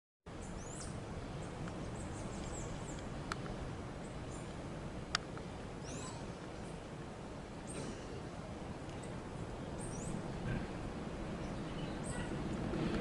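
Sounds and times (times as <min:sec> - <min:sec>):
steady low rumble: 0:00.3 - 0:13.0.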